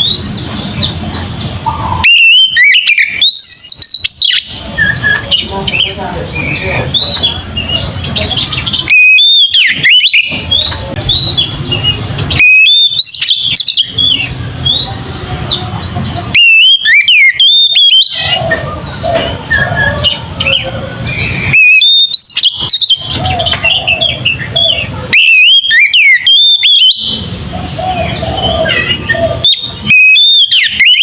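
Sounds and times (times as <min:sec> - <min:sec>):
bird singing whistled phrases: 0:00.0 - 0:31.0
low background noise: 0:00.0 - 0:31.0.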